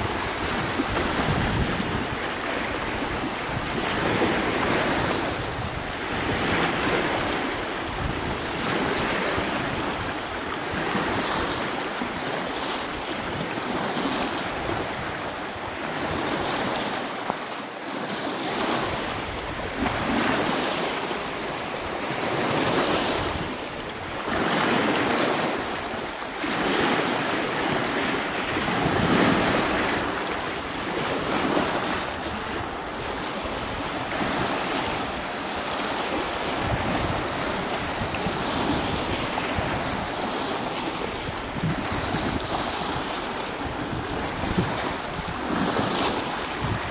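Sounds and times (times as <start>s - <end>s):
wind buffeting microphone: 0.0s - 12.4s, 18.8s - 46.9s
waves splashing over boulders: 0.0s - 46.9s.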